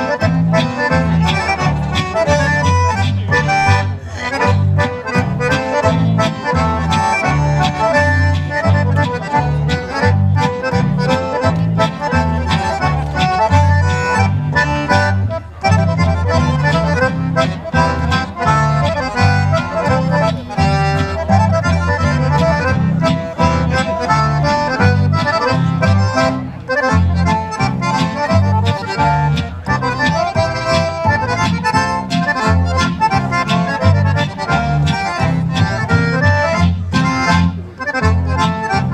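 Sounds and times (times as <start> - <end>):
accordions: 0.0 - 38.9
acoustic guitar: 0.0 - 38.9
double bass beat: 0.0 - 38.9.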